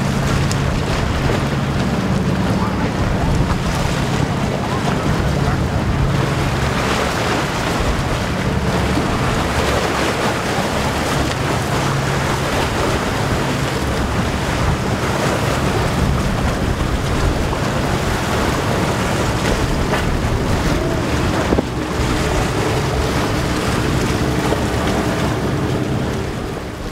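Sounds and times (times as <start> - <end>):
boat engine drone: 0.0 - 26.9
bow wave rushing on choppy water: 0.0 - 26.9
wind buffeting microphone: 0.0 - 26.9.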